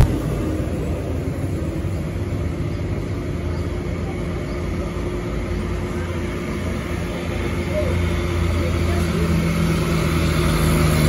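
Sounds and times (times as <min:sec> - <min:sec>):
diesel truck engine labouring: 0:00.0 - 0:11.0.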